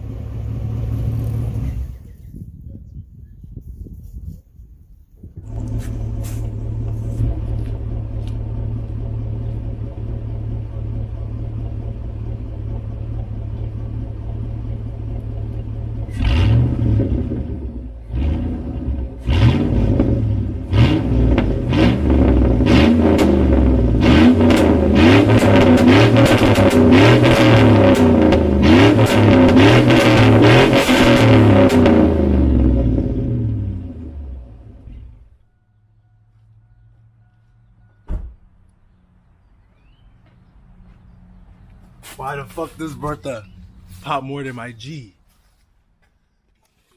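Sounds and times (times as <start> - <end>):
car engine idling: 0.0 - 2.3, 5.4 - 40.5, 41.3 - 45.1.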